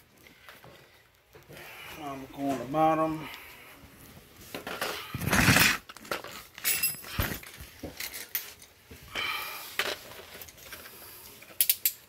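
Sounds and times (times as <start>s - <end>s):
rustling handling noise: 0.0s - 11.7s.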